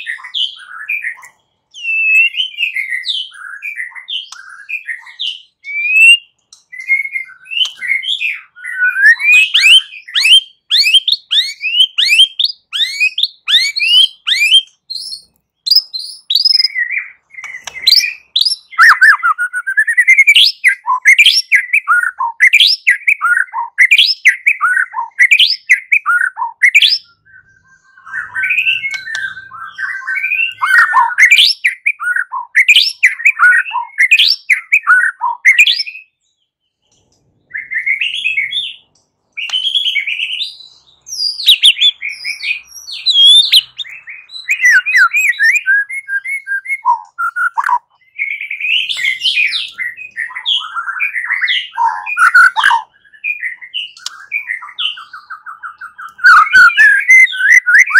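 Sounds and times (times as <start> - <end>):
songbird singing varied song: 0.0 - 57.9.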